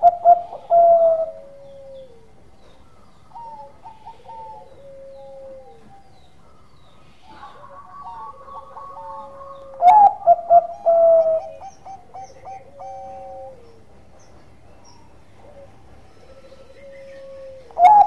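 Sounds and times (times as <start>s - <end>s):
dove cooing: 0.0s - 14.0s, 15.4s - 18.0s.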